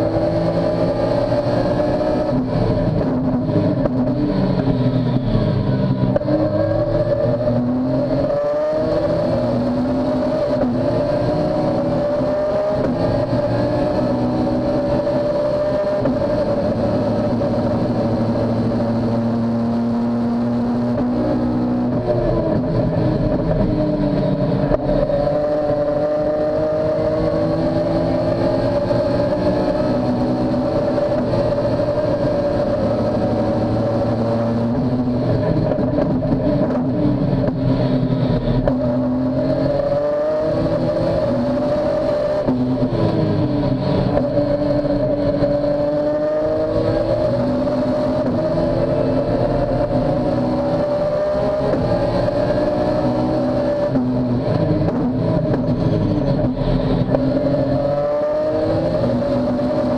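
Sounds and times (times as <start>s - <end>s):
race car engine under load: 0.0s - 59.9s.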